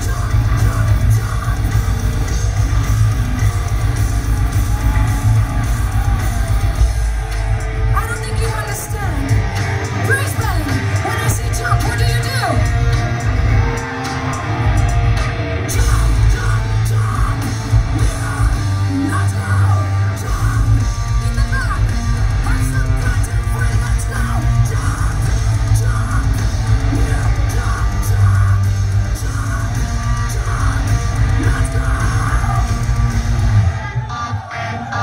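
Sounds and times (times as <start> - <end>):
vocals: 0.0 - 3.8, 6.9 - 35.0
distorted guitars: 0.0 - 35.0
drums: 0.0 - 35.0.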